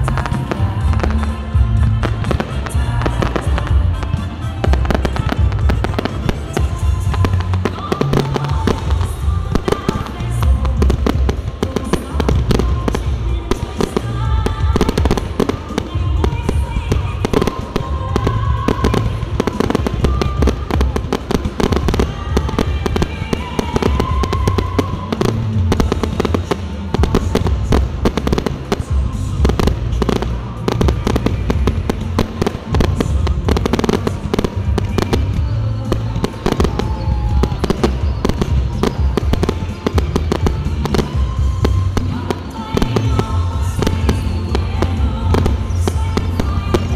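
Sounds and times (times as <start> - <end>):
fireworks bangs and crackling: 0.0 - 46.9
music playing: 0.0 - 46.9.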